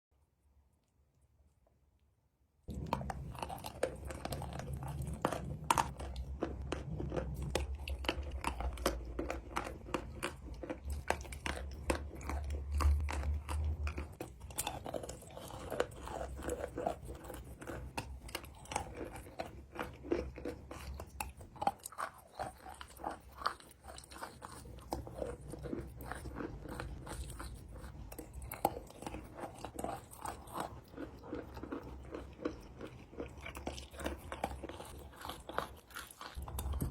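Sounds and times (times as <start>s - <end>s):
chewing crunchy chalk: 2.7s - 36.9s.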